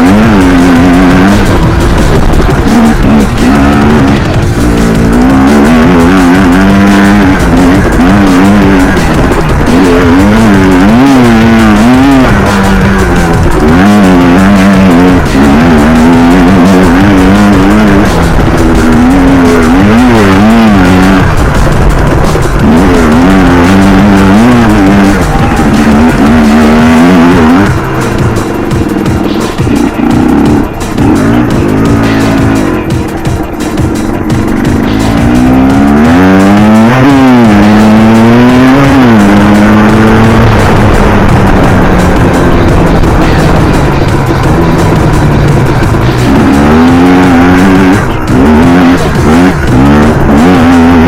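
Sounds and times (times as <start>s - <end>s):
electronic music: 0.0s - 51.0s
quad engine revving: 0.0s - 51.0s
wobbling growling bass: 0.0s - 51.0s.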